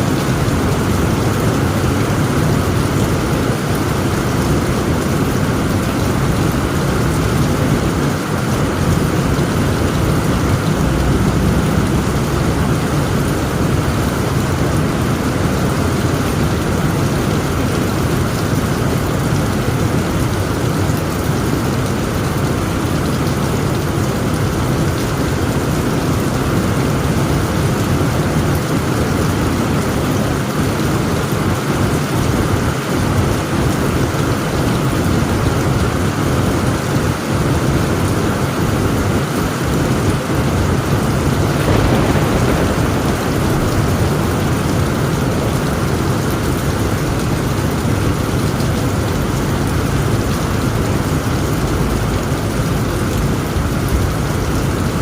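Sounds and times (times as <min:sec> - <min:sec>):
low rumble of thunder: 0:00.0 - 0:32.7, 0:39.7 - 0:55.0
heavy rain on a tent roof: 0:00.0 - 0:55.0.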